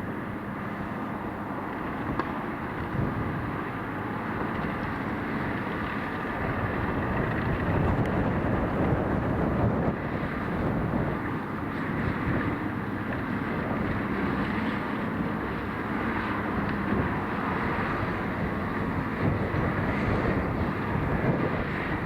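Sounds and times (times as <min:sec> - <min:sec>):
wind blowing on microphone: 0:01.9 - 0:03.7, 0:04.6 - 0:14.5, 0:15.8 - 0:22.0.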